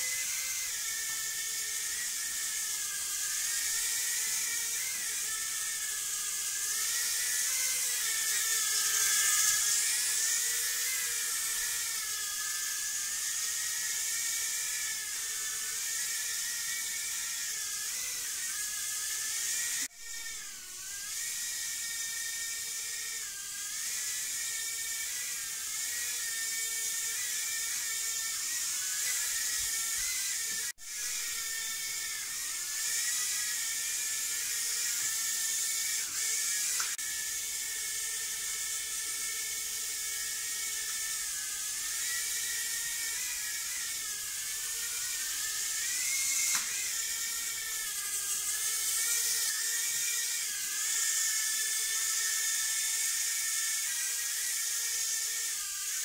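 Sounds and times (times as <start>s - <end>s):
micro drone whining: 0.0s - 56.0s.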